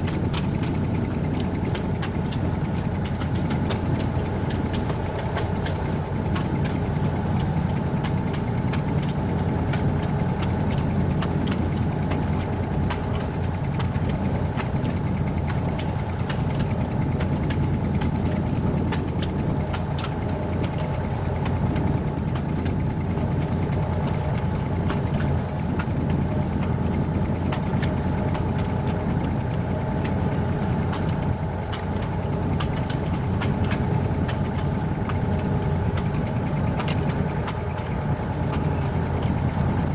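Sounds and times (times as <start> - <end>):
diesel engine drone: 0.0 - 39.9
wheels clicking on track: 0.0 - 39.9.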